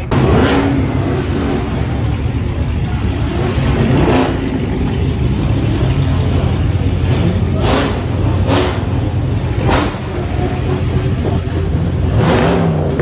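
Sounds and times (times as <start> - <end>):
car engines idling loudly: 0.0 - 13.0
engine throttle blips: 0.0 - 13.0.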